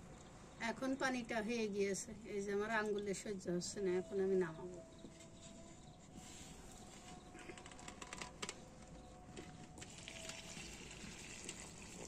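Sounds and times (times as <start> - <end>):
faint steady tone: 0.0 - 12.0.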